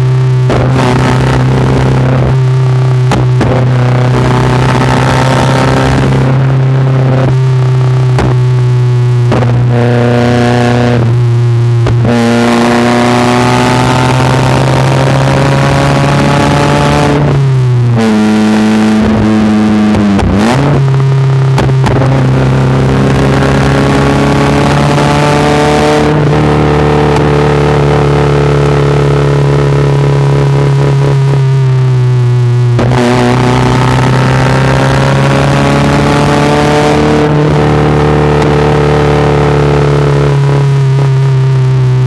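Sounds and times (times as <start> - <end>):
loud car exhaust revving: 0.0 - 42.0.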